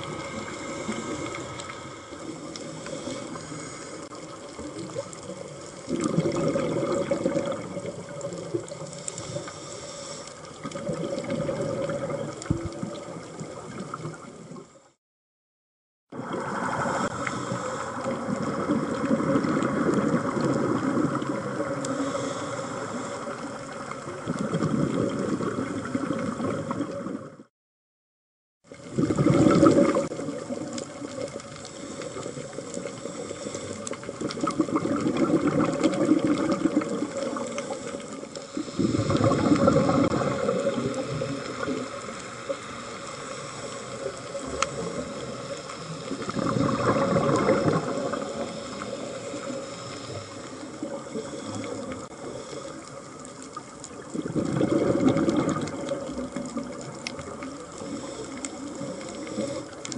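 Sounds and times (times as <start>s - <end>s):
diver exhaling bubbles: 0.0s - 9.5s, 10.5s - 14.6s, 16.1s - 27.5s, 28.8s - 52.7s, 53.6s - 59.9s
watery hiss: 0.0s - 14.6s, 16.2s - 24.2s, 28.8s - 59.9s.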